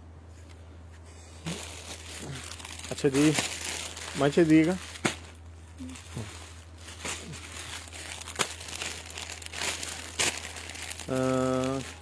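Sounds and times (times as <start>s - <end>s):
clothes and plastic packets rustling: 0.3s - 12.0s
sharp plastic crackles: 1.4s - 12.0s.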